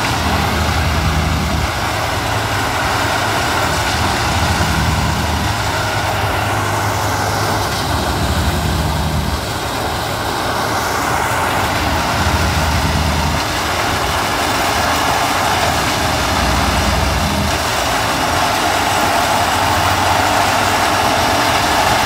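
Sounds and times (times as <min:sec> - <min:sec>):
diesel engine: 0:00.0 - 0:22.0
tamping machine clatter and hiss: 0:00.0 - 0:22.0.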